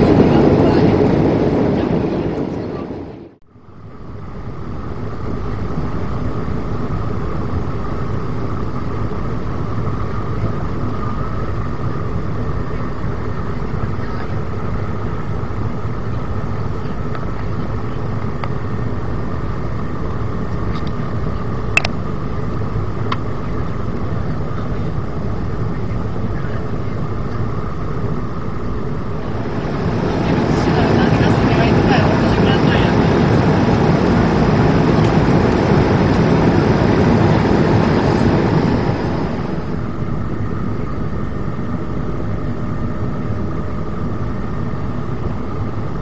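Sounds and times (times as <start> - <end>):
airflow rush in cabin: 0.0 - 46.0
jet engines humming: 0.0 - 46.0.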